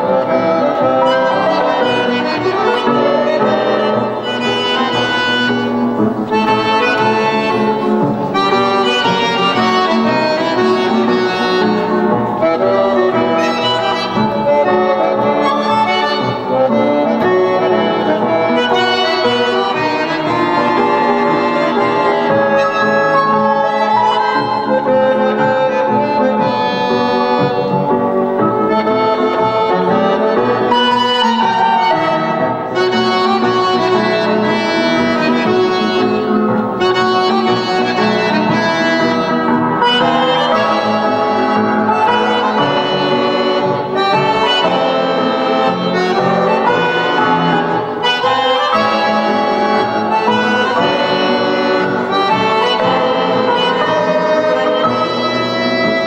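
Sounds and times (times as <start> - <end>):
button accordion melody: 0.0 - 56.0.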